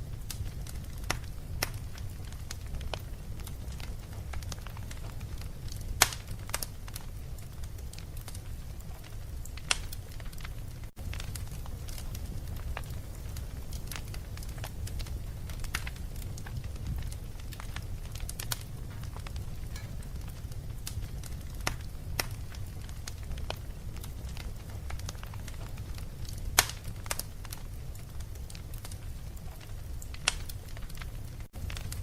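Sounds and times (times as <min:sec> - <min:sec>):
fire crackling in fireplace: 0:00.0 - 0:32.0.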